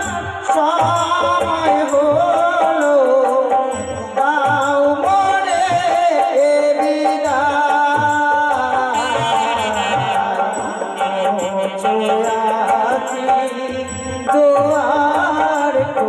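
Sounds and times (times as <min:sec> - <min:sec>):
drum beats: 0:00.0 - 0:16.0
high ticking percussion: 0:00.0 - 0:16.0.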